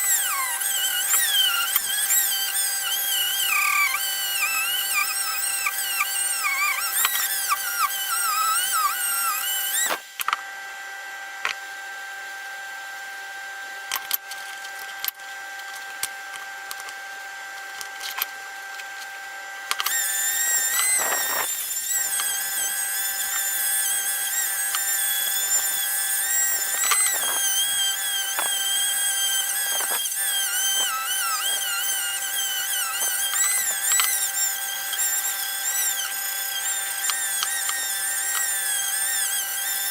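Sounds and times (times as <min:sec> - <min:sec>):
high-speed electric tool whining: 0:00.0 - 0:39.9.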